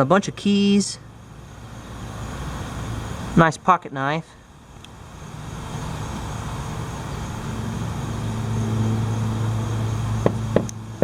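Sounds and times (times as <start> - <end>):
motor vehicle engine hum: 0.0 - 3.5, 4.4 - 11.0.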